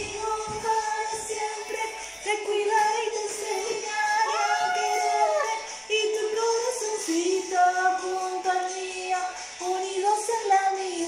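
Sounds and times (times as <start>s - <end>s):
backing music: 0.0s - 11.0s
women singing pop song: 0.0s - 11.0s.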